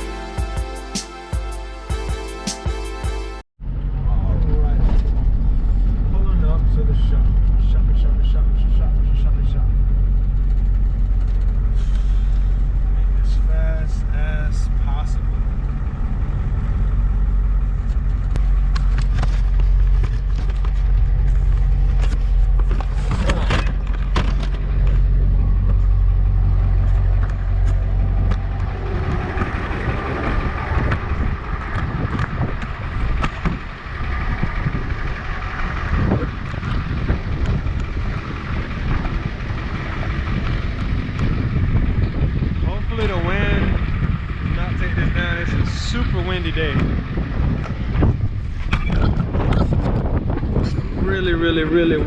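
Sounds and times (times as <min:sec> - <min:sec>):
road noise: 0:00.0 - 0:52.0
truck engine hum: 0:00.0 - 0:52.0.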